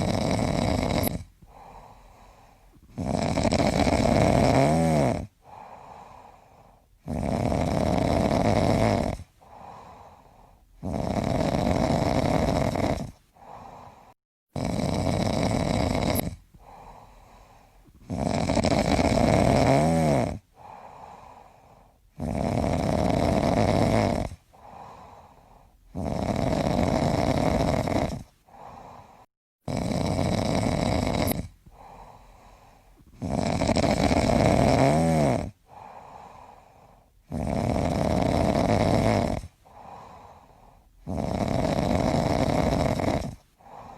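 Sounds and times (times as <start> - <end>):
person snoring heavily: 0.0 - 43.9.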